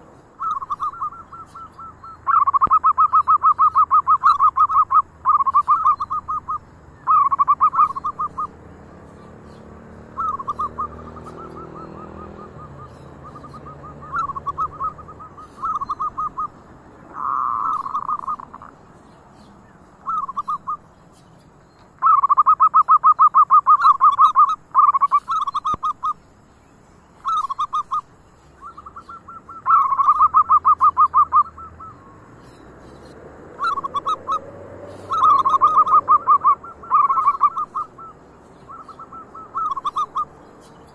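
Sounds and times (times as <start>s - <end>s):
doves cooing: 0.0s - 21.2s, 21.9s - 26.2s, 27.2s - 40.9s.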